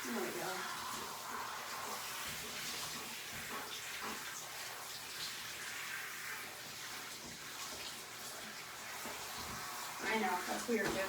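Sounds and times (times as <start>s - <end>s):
hose sprayer spraying water: 0.0s - 11.0s.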